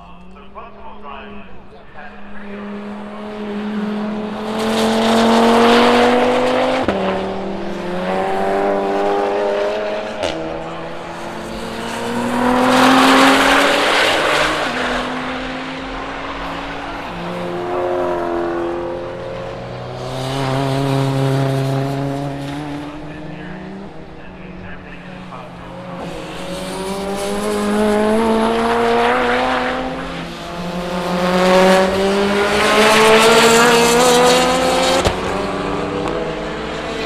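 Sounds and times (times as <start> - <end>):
race cars revving past: 1.5 - 37.0.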